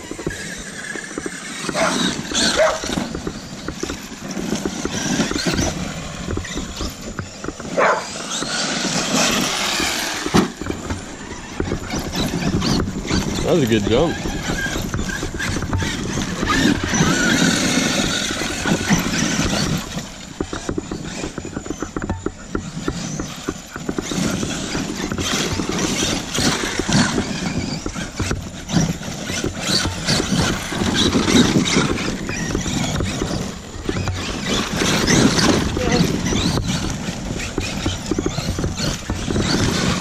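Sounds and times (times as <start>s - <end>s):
electric motors whining: 0.0s - 40.0s
gravel crunching and rattling: 0.0s - 40.0s
tyres scrabbling: 0.0s - 40.0s.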